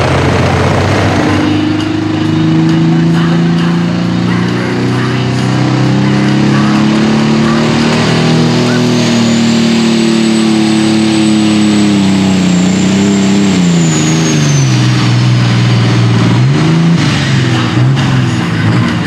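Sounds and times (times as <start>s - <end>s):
turbo whine: 0.0s - 18.7s
diesel tractor engine at full throttle: 0.0s - 19.0s.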